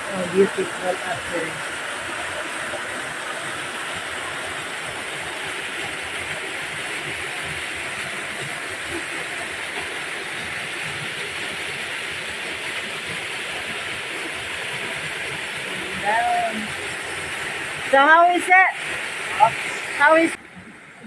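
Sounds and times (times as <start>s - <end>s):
rushing stream and waterfall: 0.0s - 21.0s.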